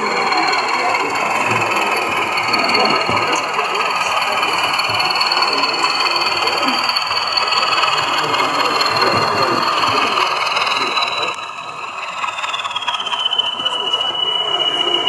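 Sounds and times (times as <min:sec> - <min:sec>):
diesel engine running: 0:00.0 - 0:15.0
high whistle falling in pitch: 0:00.0 - 0:15.0.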